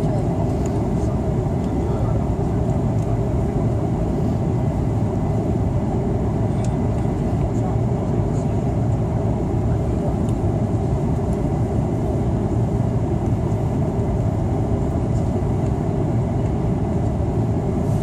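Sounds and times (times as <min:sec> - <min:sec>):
airliner cabin noise: 0:00.0 - 0:18.0.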